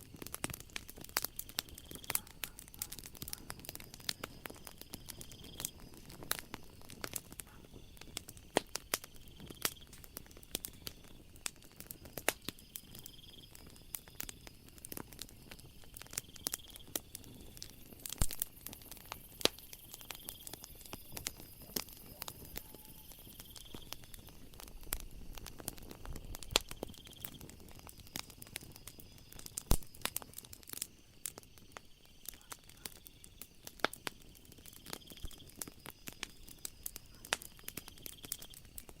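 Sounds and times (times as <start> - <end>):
night insects chirping: 0.0 - 39.0
wood fire crackling: 0.0 - 39.0.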